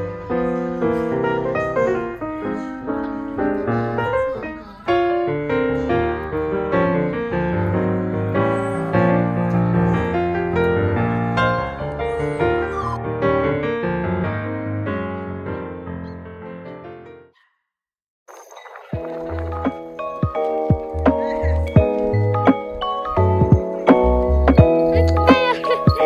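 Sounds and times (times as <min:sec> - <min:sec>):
piano music: 0:00.0 - 0:17.3, 0:18.9 - 0:26.0.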